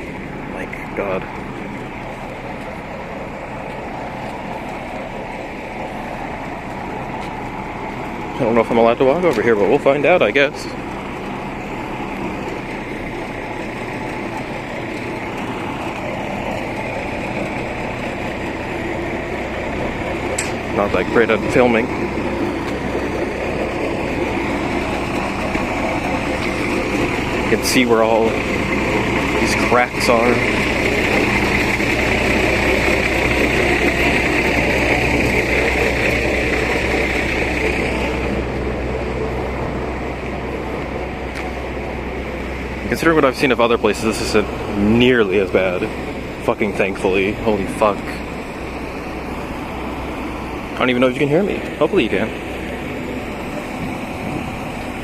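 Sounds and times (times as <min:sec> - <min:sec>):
steady mechanical drone: 0:00.0 - 0:55.0.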